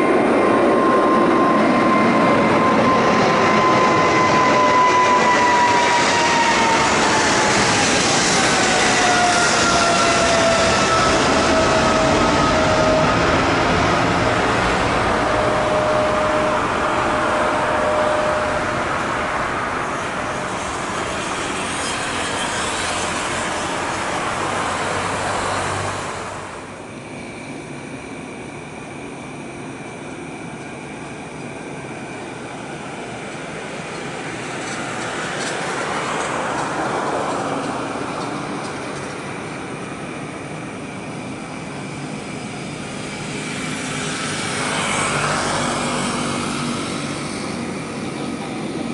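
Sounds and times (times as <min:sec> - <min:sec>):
jet engine roar: 0:00.0 - 0:48.9
jet engine whine: 0:00.0 - 0:48.9.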